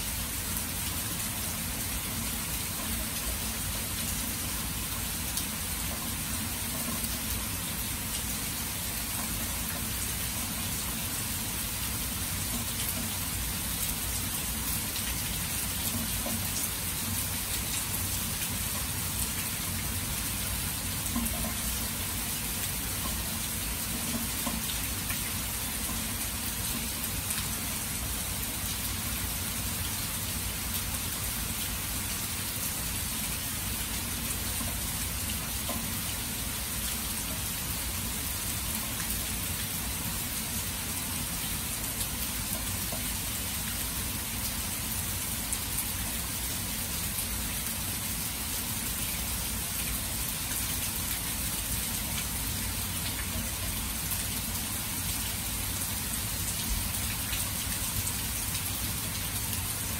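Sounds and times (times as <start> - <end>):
rain on water and grass: 0.0 - 59.9.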